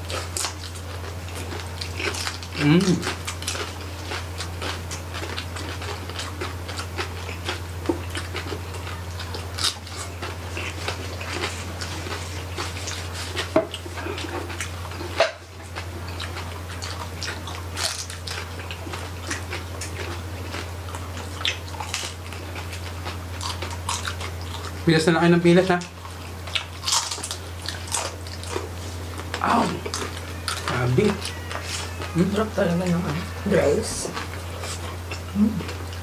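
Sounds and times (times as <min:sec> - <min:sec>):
chewing and biting crispy meat: 0:00.0 - 0:36.0
steady low hum: 0:00.0 - 0:36.0.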